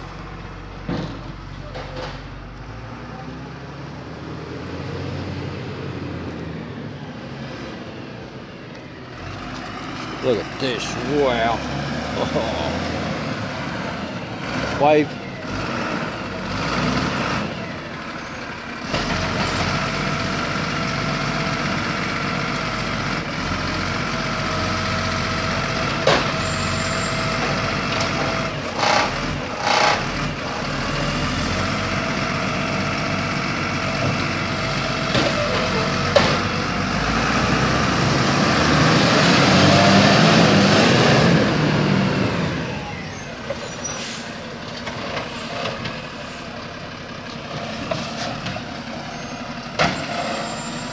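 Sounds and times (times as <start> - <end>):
garbage truck running: 0.0 - 50.9.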